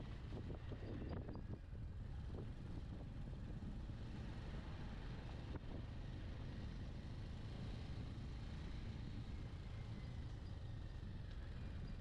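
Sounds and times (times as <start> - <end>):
motorcycle engine and road noise: 0.0 - 12.0
wind rumble on microphone: 0.0 - 12.0.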